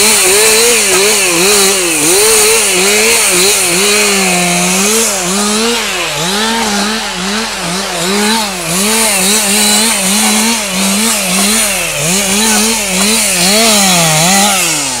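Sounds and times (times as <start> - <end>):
chainsaw revving and cutting: 0.0 - 15.0.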